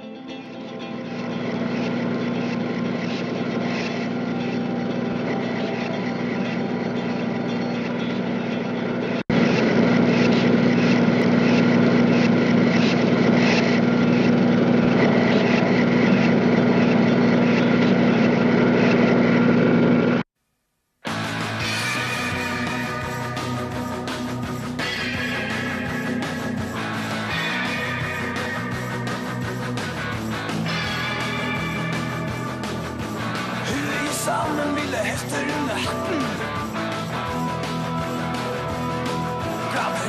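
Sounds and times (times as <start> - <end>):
motor humming and whirring: 0.2 - 20.2, 21.2 - 40.0.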